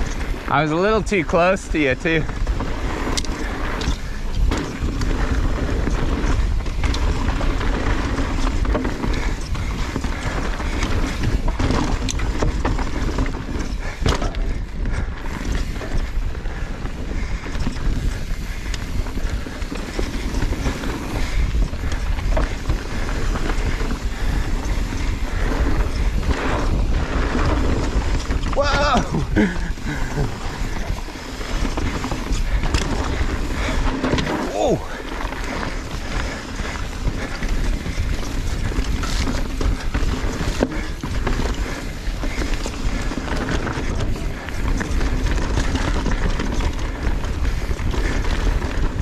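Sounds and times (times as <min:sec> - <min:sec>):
bike chain and suspension rattling: 0:00.0 - 0:49.0
bike tyres crunching over dirt: 0:00.0 - 0:49.0
wind rumble on microphone: 0:00.0 - 0:49.0.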